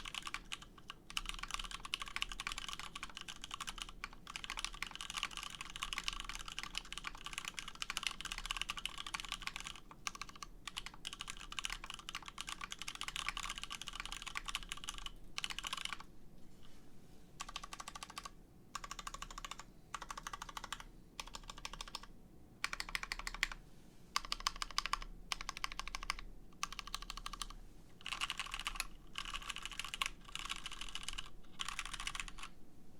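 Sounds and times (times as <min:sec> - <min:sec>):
mechanical keyboard typing: 0:00.0 - 0:16.1, 0:17.4 - 0:23.6, 0:24.2 - 0:32.6.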